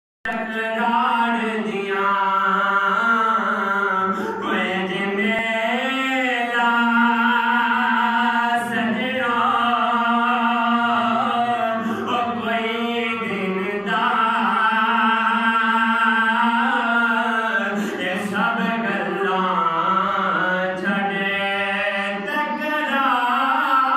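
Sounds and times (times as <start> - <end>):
man singing unaccompanied: 0.3 - 23.9.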